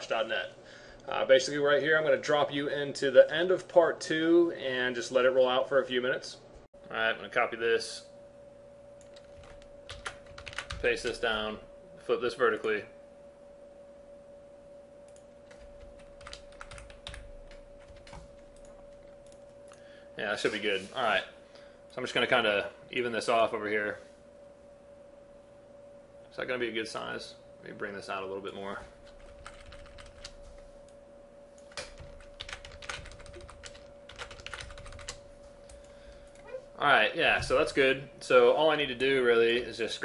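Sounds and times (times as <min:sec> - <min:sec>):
thin steady hum: 0:00.0 - 0:40.0.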